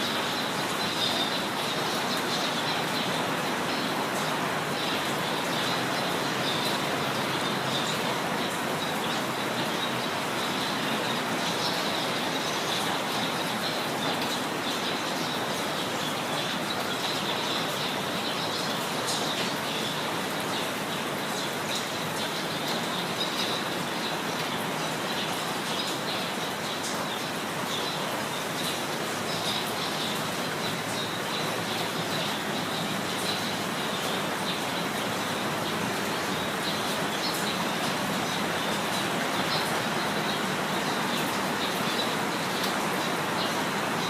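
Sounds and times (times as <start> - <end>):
small birds chirping: 0.0 - 44.0
steady rain falling: 0.0 - 44.0.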